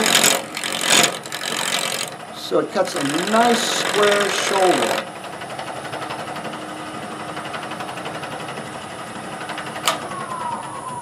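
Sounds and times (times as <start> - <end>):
lathe whine winding down: 0.0 - 11.0
wood lathe humming: 0.0 - 11.0.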